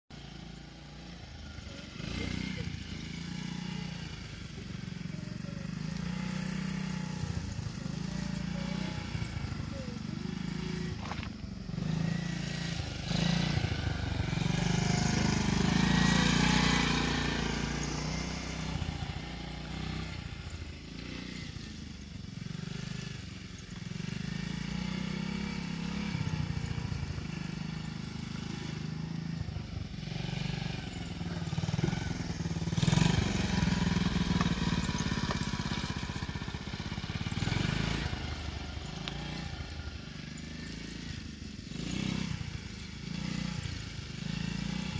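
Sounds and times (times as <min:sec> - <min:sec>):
small motorbike engine revving: 0:00.1 - 0:44.9.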